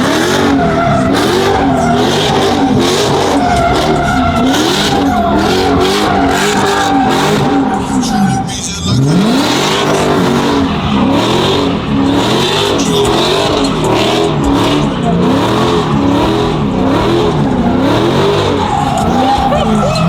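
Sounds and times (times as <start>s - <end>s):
car engine revving: 0.0s - 20.0s
spinning tires hissing: 0.0s - 20.0s.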